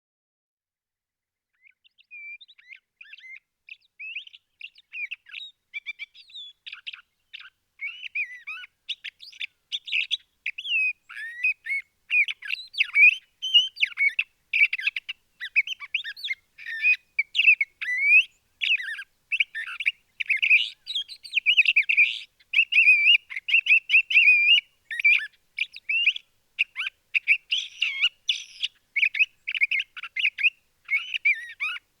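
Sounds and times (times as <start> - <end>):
nestling birds cheeping: 1.7 - 31.8.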